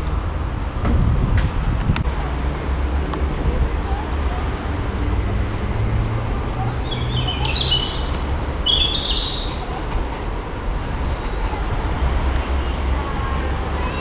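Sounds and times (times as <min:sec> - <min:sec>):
diesel train engines humming: 0:00.0 - 0:14.0.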